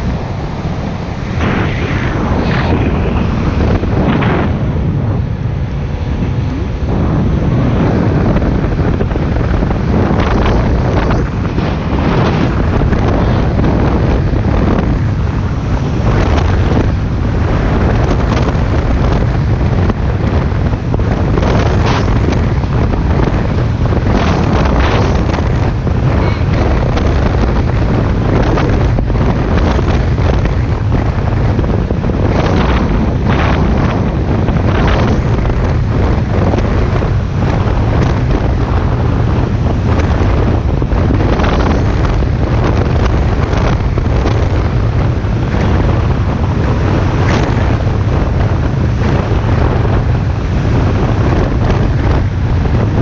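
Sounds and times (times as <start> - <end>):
boat engine rumble: 0.0 - 53.0
rushing water: 0.0 - 53.0
wind buffeting microphone: 0.0 - 53.0.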